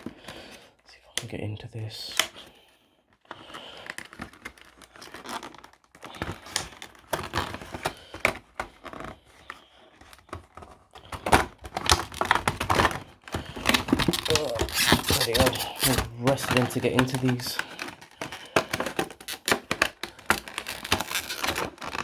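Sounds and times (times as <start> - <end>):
box packaging scraping and rustling: 3.1 - 22.0.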